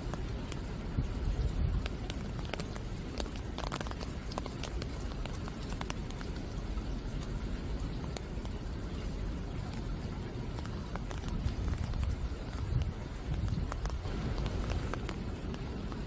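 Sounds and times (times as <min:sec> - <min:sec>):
close water drops striking: 0:00.0 - 0:16.0
steady rain falling: 0:00.0 - 0:16.0.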